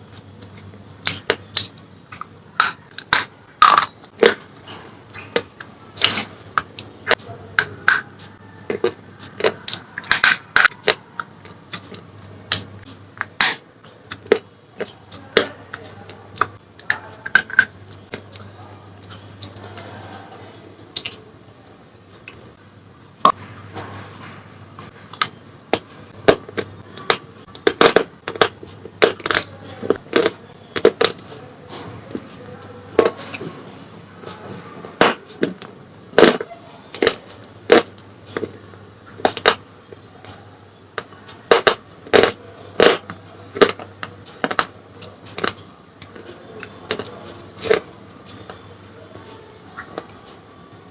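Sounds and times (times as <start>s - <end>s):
pencils being chewed: 0.0s - 22.6s, 23.7s - 50.9s.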